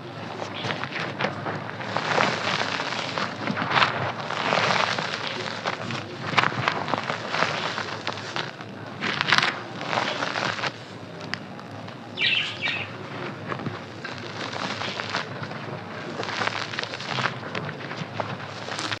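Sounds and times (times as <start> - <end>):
dry clay crunching: 0.1 - 19.0.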